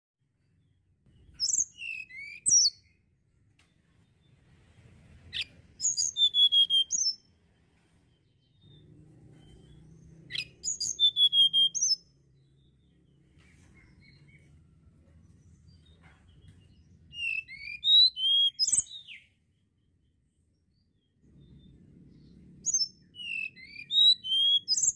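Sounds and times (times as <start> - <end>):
bird singing high phrases: 0.4 - 4.5, 5.2 - 24.9.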